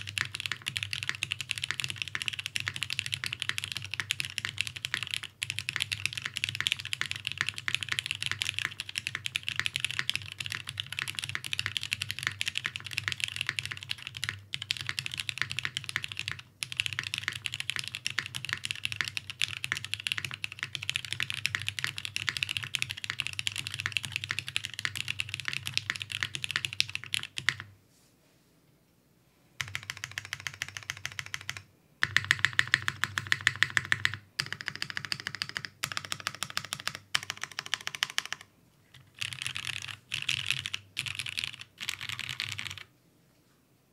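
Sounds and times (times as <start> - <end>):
typing on mechanical keyboard: 0.0 - 27.7, 29.6 - 42.9.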